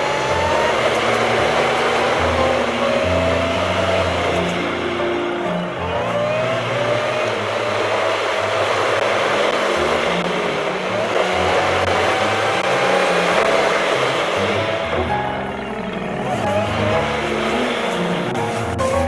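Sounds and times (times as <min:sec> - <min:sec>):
car engine accelerating: 0:00.0 - 0:19.0
road and tyre noise: 0:00.0 - 0:19.0.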